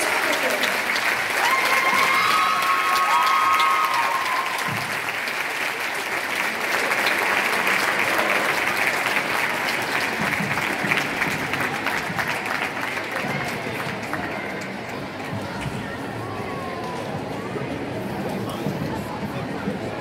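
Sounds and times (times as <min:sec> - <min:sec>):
audience applauding: 0:00.0 - 0:16.5.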